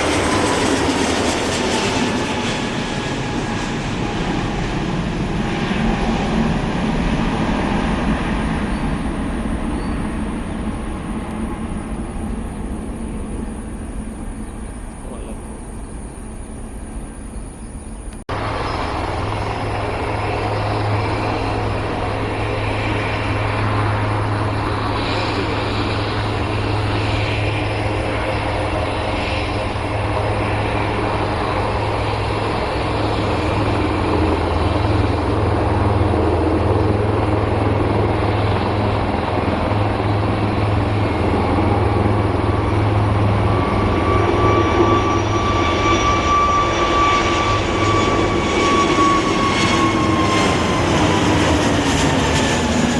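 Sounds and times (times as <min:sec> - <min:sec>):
aircraft engines humming: 0:00.0 - 0:52.9
steady whine: 0:00.0 - 0:52.9.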